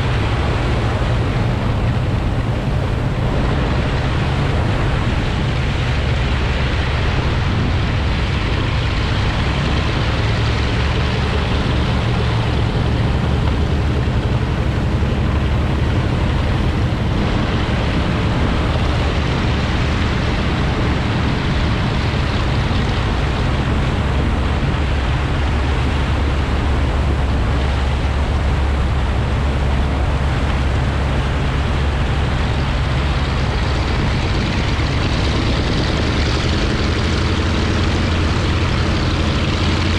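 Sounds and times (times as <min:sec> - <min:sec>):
low engine drone: 0:00.0 - 0:39.9
rushing water: 0:00.0 - 0:39.9
wind noise: 0:00.0 - 0:39.9.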